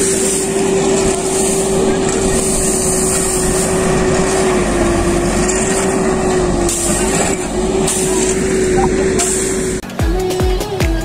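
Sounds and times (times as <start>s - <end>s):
diesel engine running: 0.0s - 10.3s.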